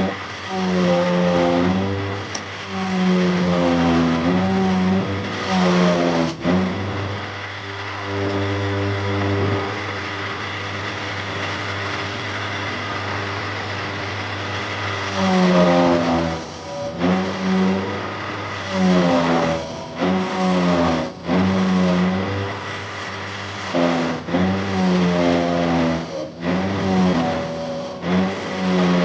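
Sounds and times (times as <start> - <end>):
power tool motor running: 0.0 - 29.0.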